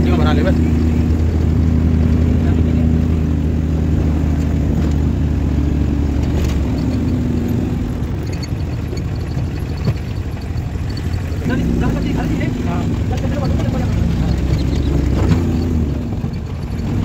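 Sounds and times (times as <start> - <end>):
car engine rumbling from inside: 0.0 - 17.0.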